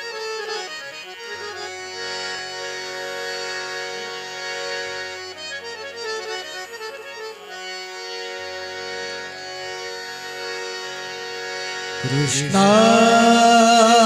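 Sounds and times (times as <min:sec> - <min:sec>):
harmonium playing: 0:00.0 - 0:14.0.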